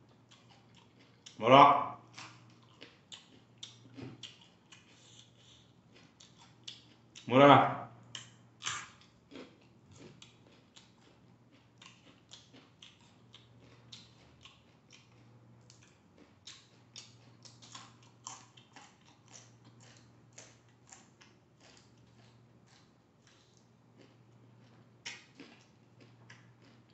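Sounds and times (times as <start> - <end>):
crunchy vegetable chewing: 0.1 - 7.4, 8.1 - 26.9.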